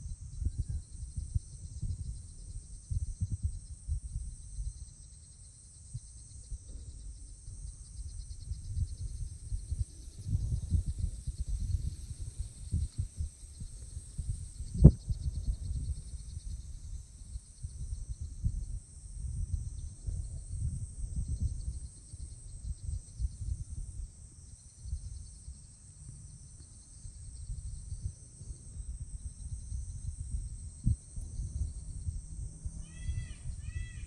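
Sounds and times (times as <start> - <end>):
insects trilling: 0.1 - 34.0.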